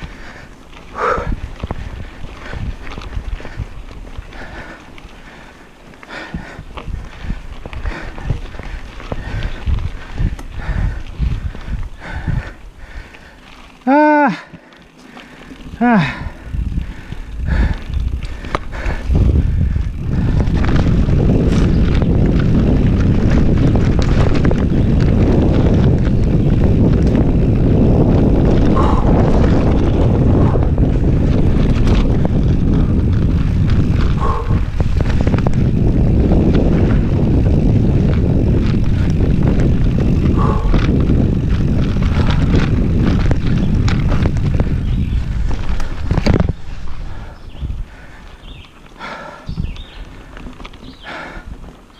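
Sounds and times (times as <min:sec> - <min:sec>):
bike rattling over rough ground: 0:00.0 - 0:51.9
wind rumbling on microphone: 0:00.0 - 0:51.9.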